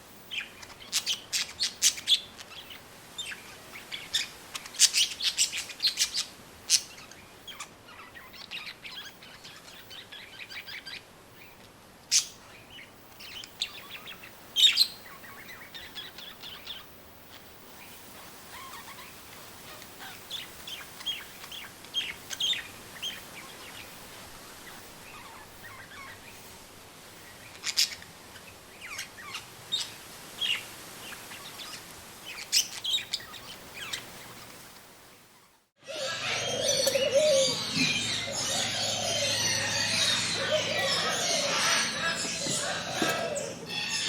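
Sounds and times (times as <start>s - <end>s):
faint steady hiss: 0.0s - 44.0s
songbirds chirping: 0.0s - 44.0s.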